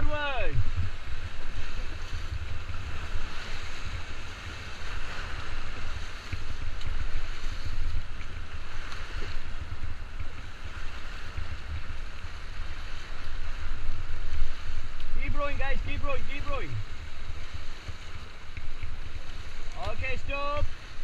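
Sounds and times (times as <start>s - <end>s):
river water rushing and splashing: 0.0s - 21.0s
wind buffeting microphone: 0.0s - 21.0s.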